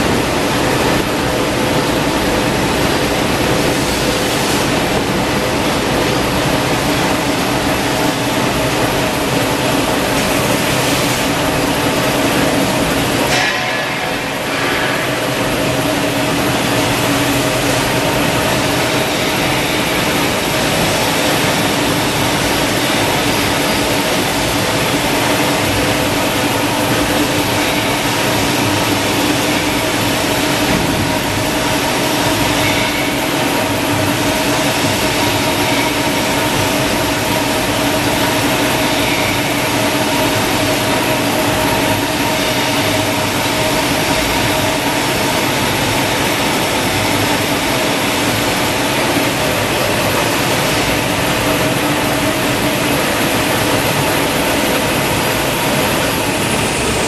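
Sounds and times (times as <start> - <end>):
machinery humming: 0.0 - 57.0.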